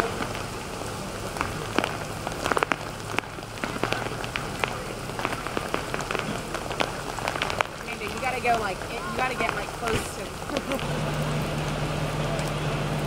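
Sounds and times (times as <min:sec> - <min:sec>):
close drip impacts: 0:00.0 - 0:13.0
heavy rain on standing water: 0:00.0 - 0:13.0.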